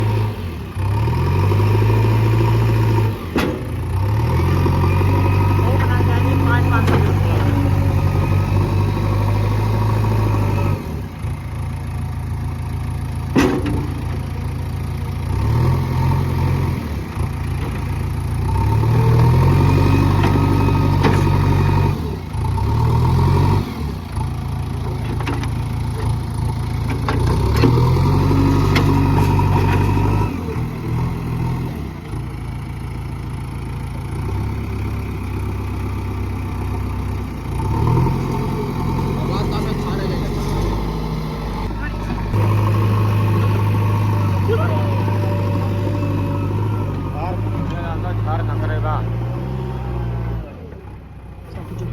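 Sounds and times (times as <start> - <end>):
excavator diesel engine revving: 0.0 - 51.9.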